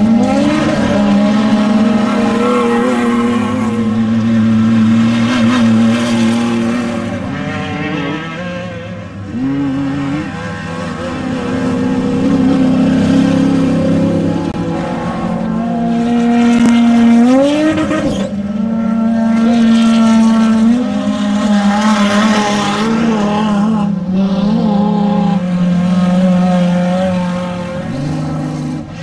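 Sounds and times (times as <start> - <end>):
race truck engines revving: 0.0 - 29.0.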